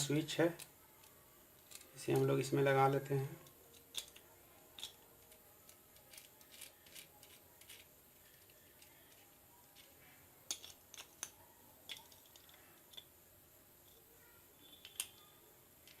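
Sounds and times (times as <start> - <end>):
small parts clicking and tapping: 0.5 - 2.4, 3.4 - 13.2, 13.8 - 16.0.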